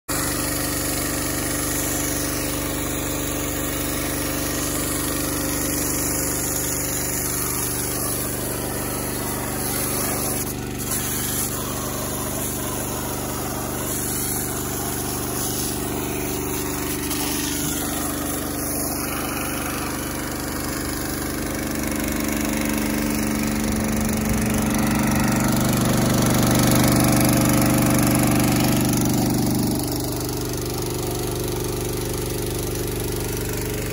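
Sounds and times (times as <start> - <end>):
water jet hissing: 0.1 - 29.9
small gas engine running: 0.1 - 33.9.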